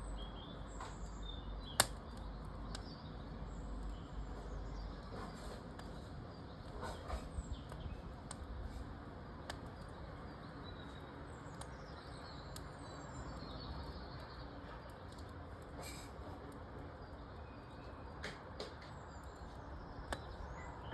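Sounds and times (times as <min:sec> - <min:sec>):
faint birds chirping: 0:00.0 - 0:20.9
wood fire crackling and popping: 0:00.1 - 0:20.9.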